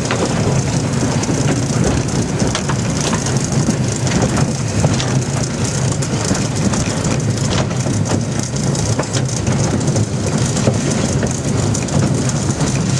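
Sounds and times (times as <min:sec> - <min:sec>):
steam locomotive rumbling: 0:00.0 - 0:12.9
wheels clicking and rattling: 0:00.0 - 0:12.9.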